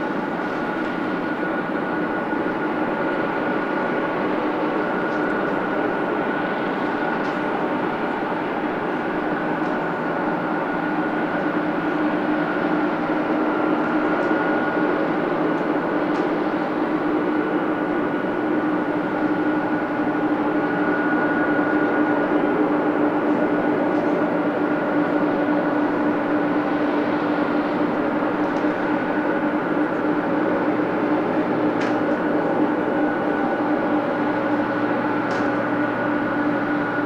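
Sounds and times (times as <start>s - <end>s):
jet engines running at low power: 0.0s - 37.0s.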